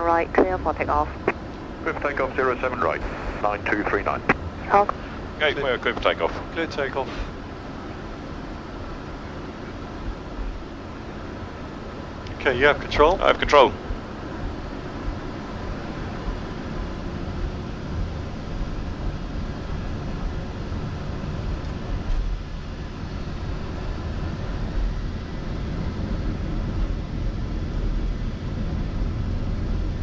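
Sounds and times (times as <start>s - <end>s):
jet engines spooling up: 0.0s - 30.0s.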